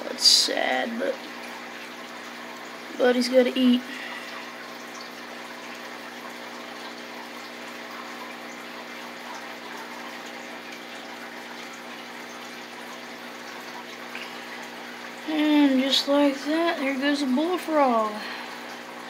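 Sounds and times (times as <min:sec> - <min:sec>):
motor hum: 0:00.0 - 0:19.0
running water: 0:00.0 - 0:19.0.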